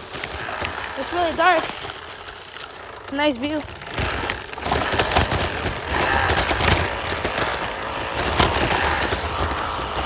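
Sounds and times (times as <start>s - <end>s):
frame rattling over bumps: 0.0s - 10.0s
scooter rumbling: 0.0s - 10.0s.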